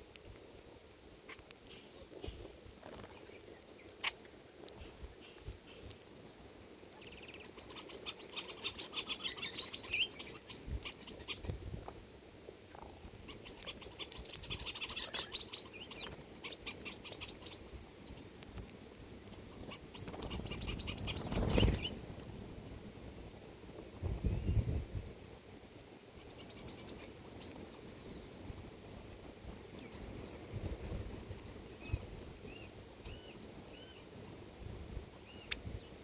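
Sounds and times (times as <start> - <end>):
small birds chirping: 1.2 - 12.0, 12.7 - 22.3, 26.1 - 28.7, 29.3 - 30.5, 31.2 - 36.0.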